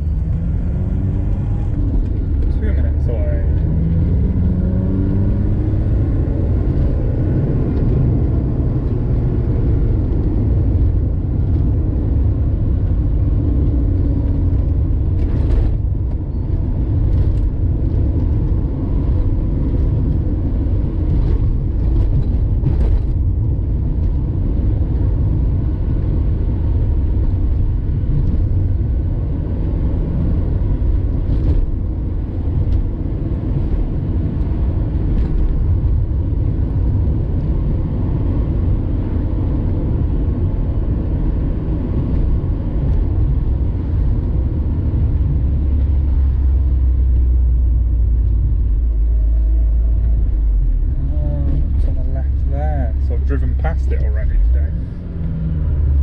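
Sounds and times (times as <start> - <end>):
car engine: 0.0 - 56.0
road rumble inside car: 0.0 - 56.0.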